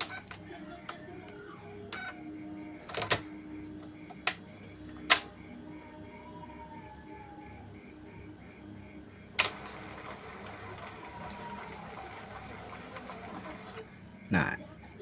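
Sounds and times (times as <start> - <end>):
printer motor hum: 0.0 - 6.6, 7.7 - 14.3.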